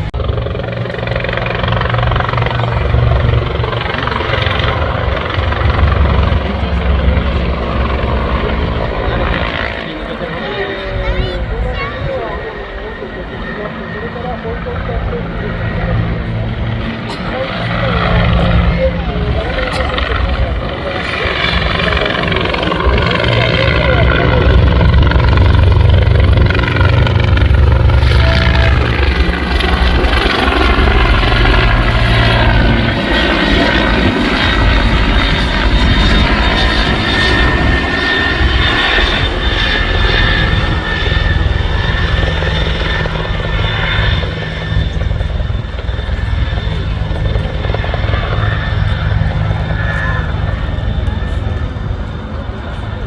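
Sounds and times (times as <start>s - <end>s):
helicopter main rotor beating: 0.0s - 53.0s
turbine engine whine: 0.0s - 53.0s.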